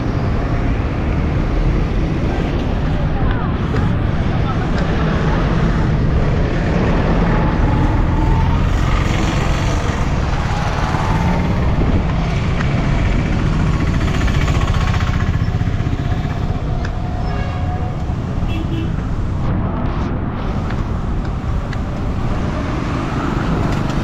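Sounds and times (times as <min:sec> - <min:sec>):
road noise: 0:00.0 - 0:24.0
vehicle engine hum: 0:00.0 - 0:24.0.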